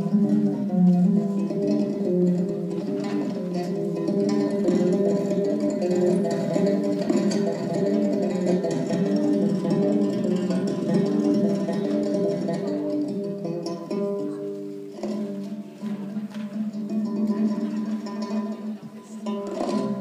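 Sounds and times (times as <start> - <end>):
plucked lute with drone string: 0.0 - 20.0.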